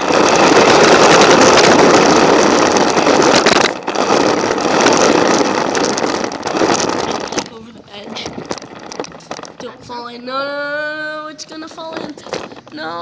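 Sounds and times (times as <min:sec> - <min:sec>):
rolling and rattling: 0:00.0 - 0:13.0
toy car motor whirring: 0:00.0 - 0:13.0.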